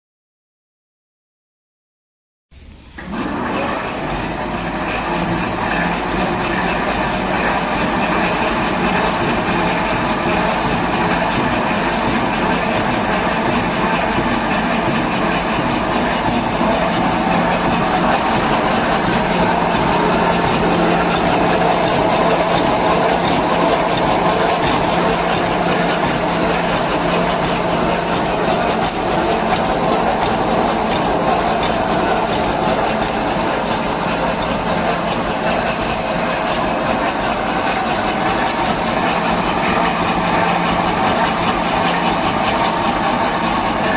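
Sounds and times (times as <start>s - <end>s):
wire mesh welding machine running: 3.0s - 43.9s.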